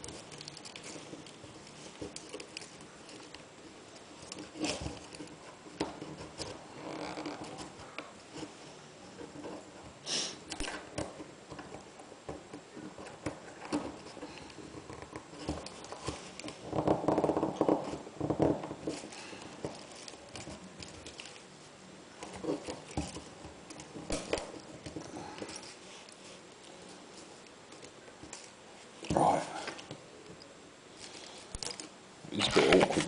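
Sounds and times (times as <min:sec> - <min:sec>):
plastic rubbing and rattling: 0:00.0 - 0:30.0, 0:31.0 - 0:33.0.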